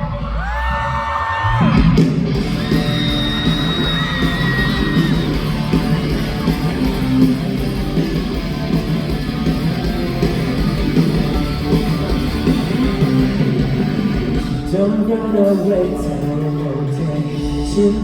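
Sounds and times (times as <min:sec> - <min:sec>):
bass guitar: 0:00.0 - 0:18.0
strummed electric guitars: 0:01.6 - 0:18.0.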